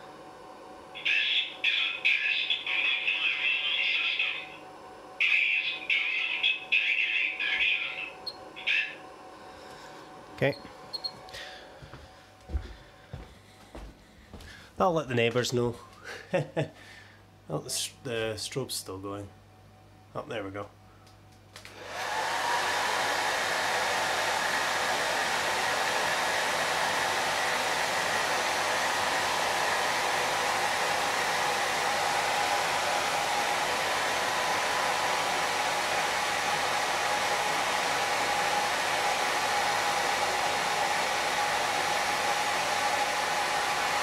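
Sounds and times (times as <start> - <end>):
hair dryer blowing: 0.0 - 14.4, 21.6 - 44.0.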